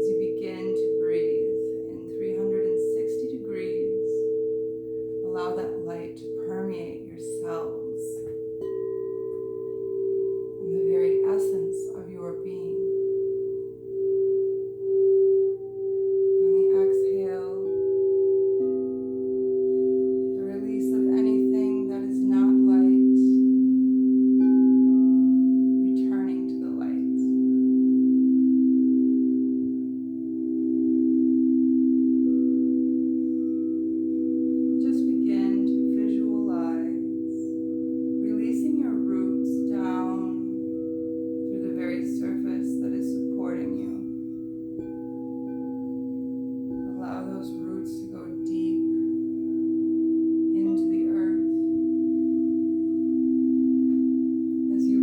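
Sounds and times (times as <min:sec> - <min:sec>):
singing bowls ringing: 0:00.0 - 0:55.0.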